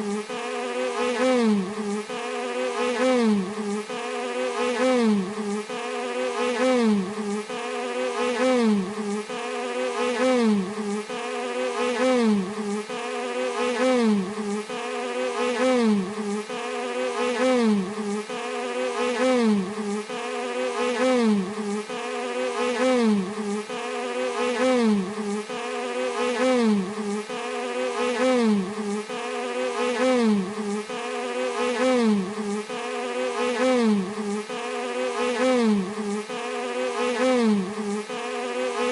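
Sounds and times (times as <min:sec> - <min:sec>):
bee buzzing: 0:00.0 - 0:38.9.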